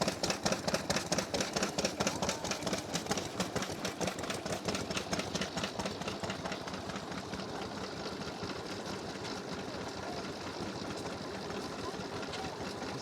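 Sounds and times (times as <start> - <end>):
stationary engine clattering: 0.0 - 13.0.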